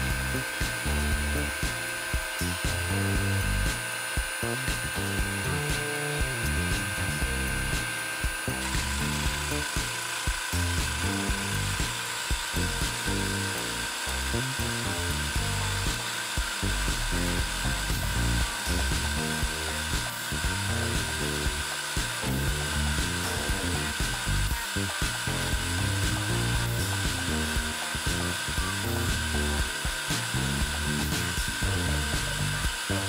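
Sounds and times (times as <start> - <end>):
machine whine over low rumble: 0.0 - 33.0.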